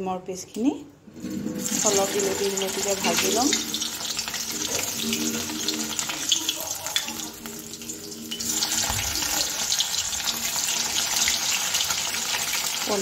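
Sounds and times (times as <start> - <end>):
egg sizzling in hot oil: 1.2 - 13.0.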